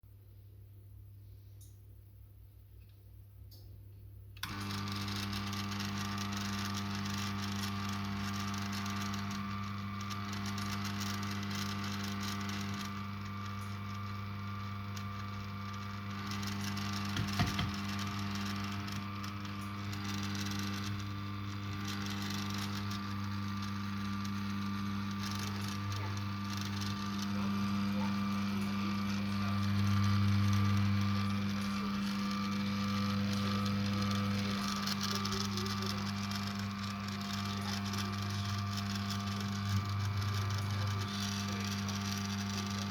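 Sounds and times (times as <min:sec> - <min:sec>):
espresso grinder running: 0:04.4 - 0:42.9
grinder rattle: 0:04.4 - 0:42.9.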